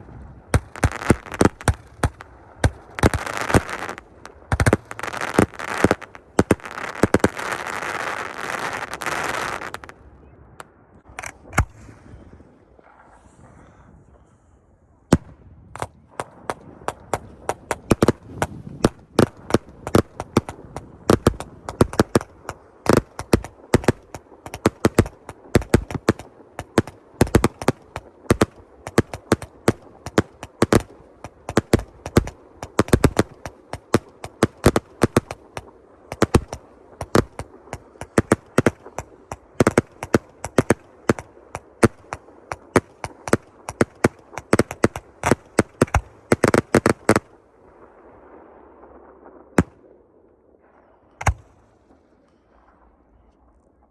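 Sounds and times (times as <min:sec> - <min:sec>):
fireworks bangs: 0:00.1 - 0:13.8, 0:15.1 - 0:52.9.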